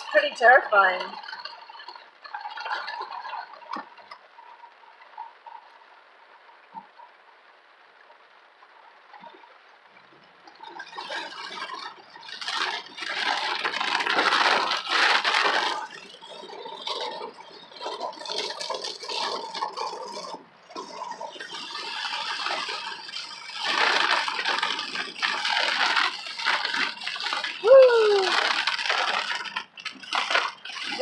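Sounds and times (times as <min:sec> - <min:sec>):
tyres hissing on wet road: 0:00.0 - 0:06.6, 0:10.7 - 0:31.0
heavy rain on a moving car: 0:00.0 - 0:31.0.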